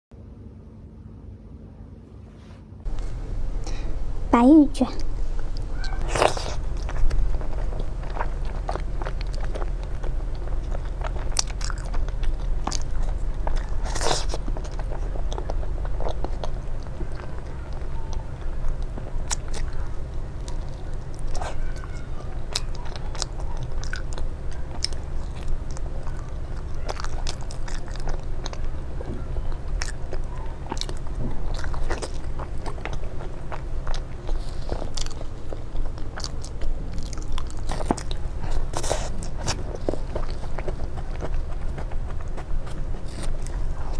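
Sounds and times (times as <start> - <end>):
steady low hum: 0.1 - 43.9
crunchy chewing mouth sounds: 4.9 - 43.9.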